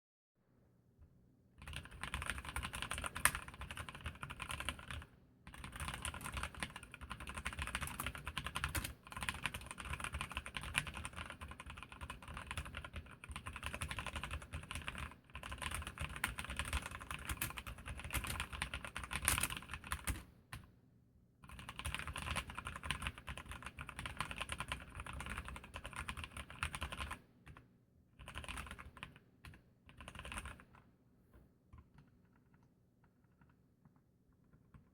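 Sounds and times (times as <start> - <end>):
mechanical keyboard typing: 1.6 - 20.7, 21.4 - 27.6, 28.2 - 30.8.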